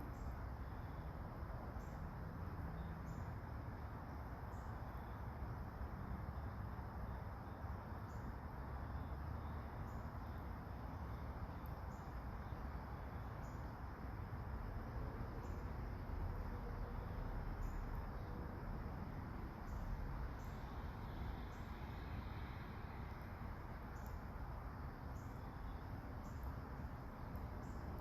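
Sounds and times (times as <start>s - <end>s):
crickets chirping: 0.0s - 28.0s
low outdoor background rush: 0.0s - 28.0s.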